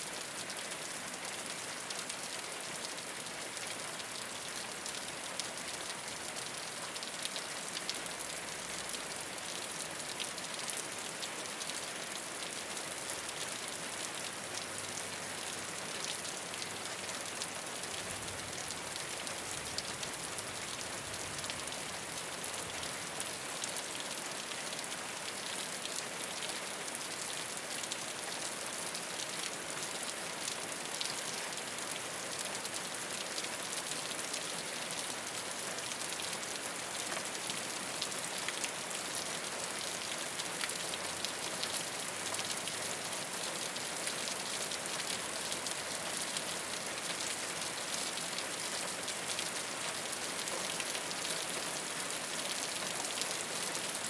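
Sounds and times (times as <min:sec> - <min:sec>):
rain on a rooftop: 0:00.0 - 0:54.0.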